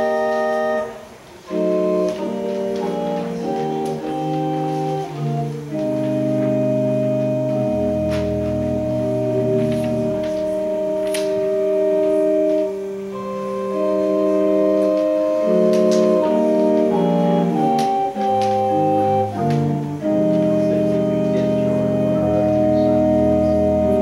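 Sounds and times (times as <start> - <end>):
organ playing slow chords: 0.0 - 24.0.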